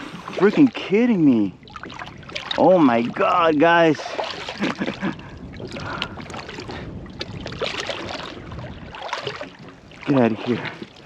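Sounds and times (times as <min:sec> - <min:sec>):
water splashing around kayak: 0:00.0 - 0:11.0
wind: 0:00.0 - 0:11.0.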